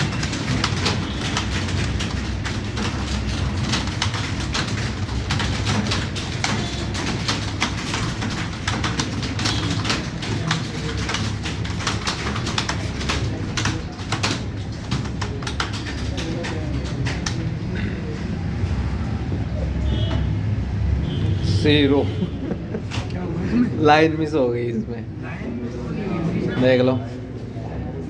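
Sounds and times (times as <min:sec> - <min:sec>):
keyboards clattering: 0:00.0 - 0:24.4.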